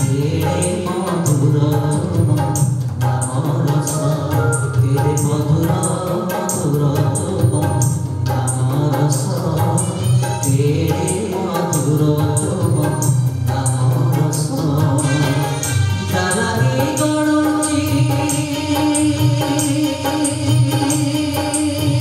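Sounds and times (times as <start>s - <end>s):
jingling percussion beat: 0.0s - 22.0s
man singing into a microphone: 0.0s - 22.0s
tabla: 0.0s - 22.0s.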